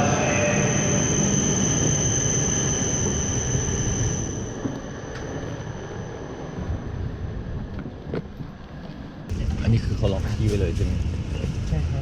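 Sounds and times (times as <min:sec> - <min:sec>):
high whine of train: 0:00.0 - 0:12.0
train rumble: 0:00.0 - 0:12.0.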